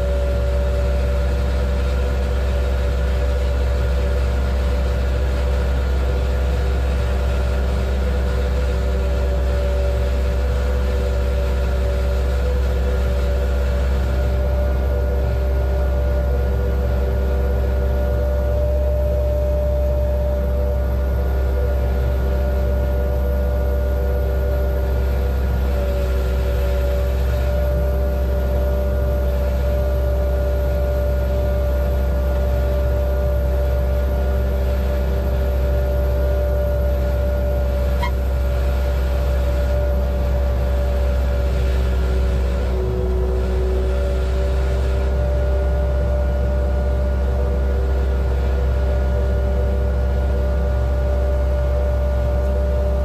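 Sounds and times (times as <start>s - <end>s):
deep engine rumble: 0.0s - 53.0s
steady engine whine: 0.0s - 53.0s.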